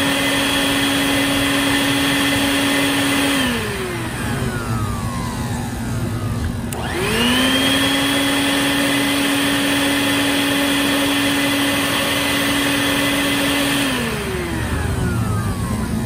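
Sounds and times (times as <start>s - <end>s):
vacuum blower motor whining: 0.0s - 16.0s.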